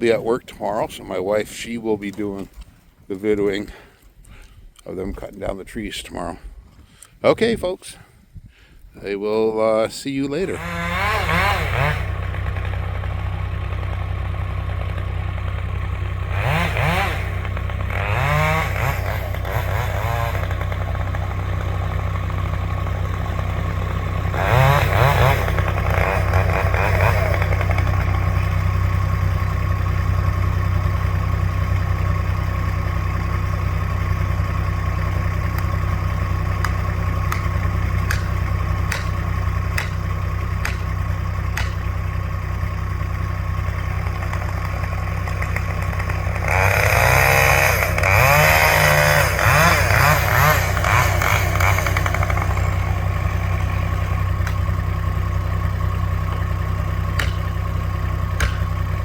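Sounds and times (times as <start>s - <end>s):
engine idling: 8.6s - 59.0s.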